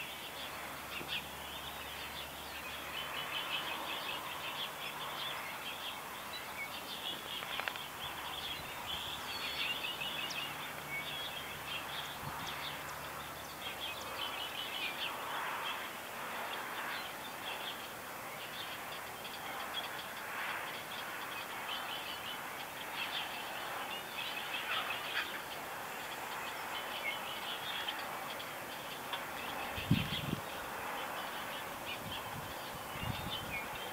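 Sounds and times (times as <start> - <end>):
faint outdoor hiss: 0.0 - 33.9
small birds chirping and trilling: 0.0 - 33.9.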